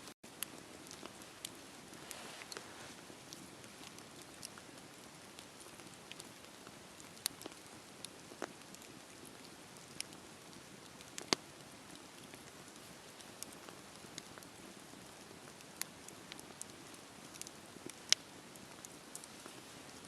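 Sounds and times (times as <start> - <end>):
bonfire popping: 0.3 - 20.0
bonfire hissing: 0.4 - 20.0.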